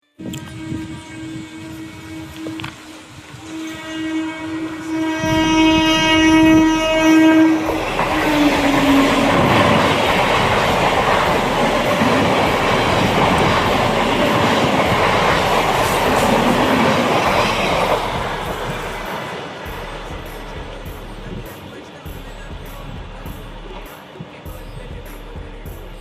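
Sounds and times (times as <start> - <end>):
train horn blast: 0.1 - 23.9
train wheels rumbling on rails: 0.2 - 26.0.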